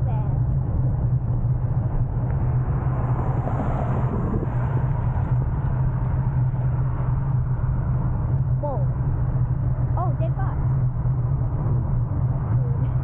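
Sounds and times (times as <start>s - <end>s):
road noise: 0.0s - 13.0s
wind on microphone: 0.0s - 13.0s.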